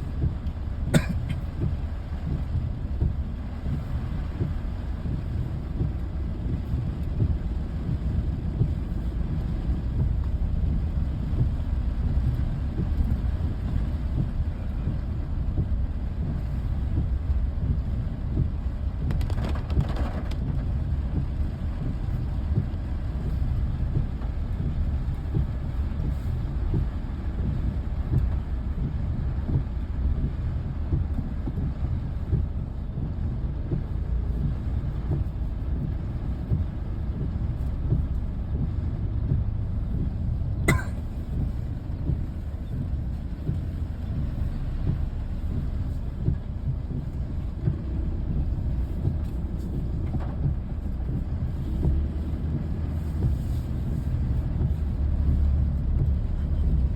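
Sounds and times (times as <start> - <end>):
vehicle rumbling in motion: 0.0 - 56.9.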